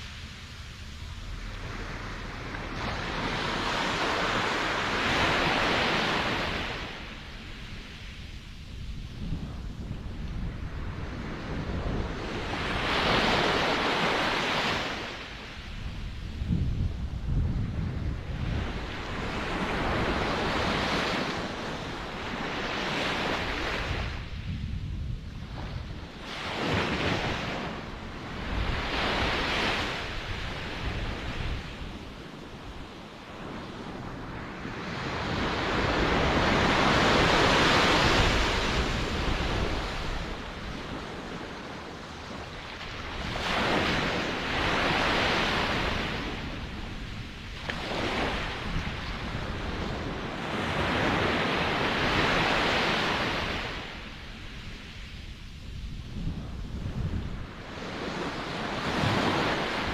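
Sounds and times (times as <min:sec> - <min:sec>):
ocean waves breaking on shore: 0:00.0 - 0:59.9
wind noise on microphone: 0:00.0 - 0:59.9.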